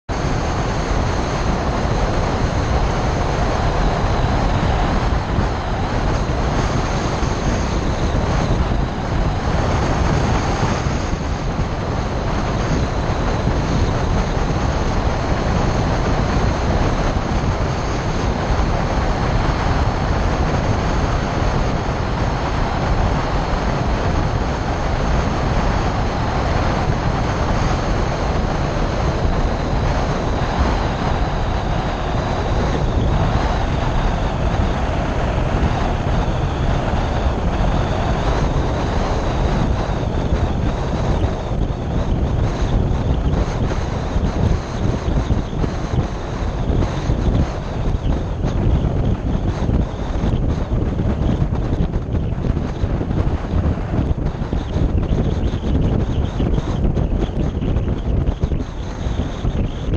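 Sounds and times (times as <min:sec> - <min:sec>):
wind buffeting microphone: 0:00.0 - 0:59.9
tyre and road noise: 0:00.1 - 0:59.9.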